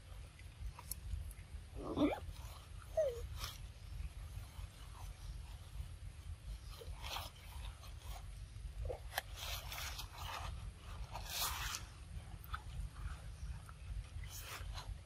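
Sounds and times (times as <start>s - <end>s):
low steady rumble: 0.0s - 15.0s
monkey chewing fruit: 0.0s - 15.0s.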